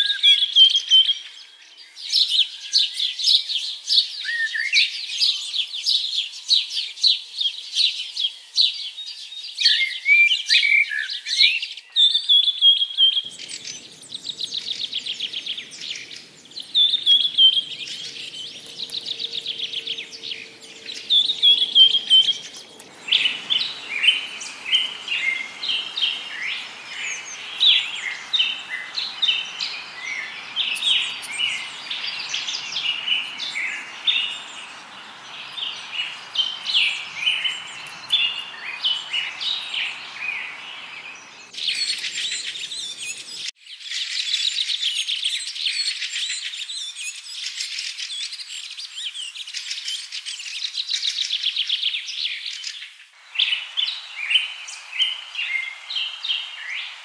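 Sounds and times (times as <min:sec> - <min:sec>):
faint outdoor noise: 0:00.0 - 0:57.0
songbirds trilling and chirping: 0:00.0 - 0:57.0.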